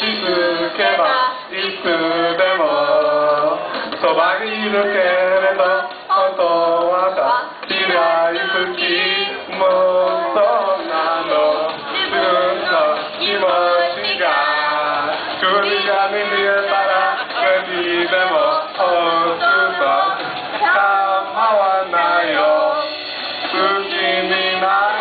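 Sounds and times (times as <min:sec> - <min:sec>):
karaoke backing track: 0:00.0 - 0:25.0
men singing karaoke: 0:00.0 - 0:25.0.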